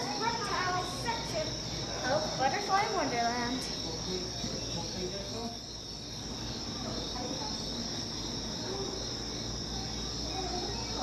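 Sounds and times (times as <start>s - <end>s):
faint voices: 0.0s - 11.0s
insect chorus chirring: 0.0s - 11.0s.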